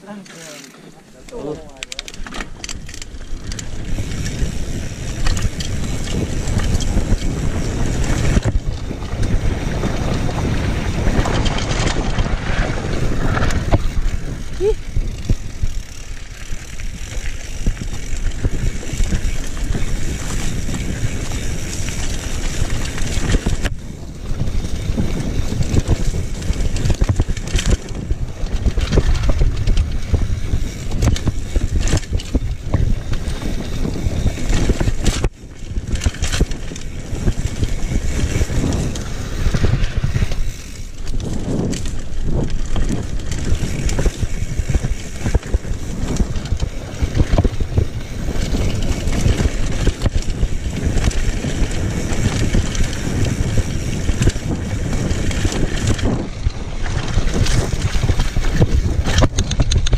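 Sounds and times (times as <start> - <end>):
bike tyres rumbling and rattling: 0.0 - 59.9
wind buffeting microphone: 1.2 - 59.9.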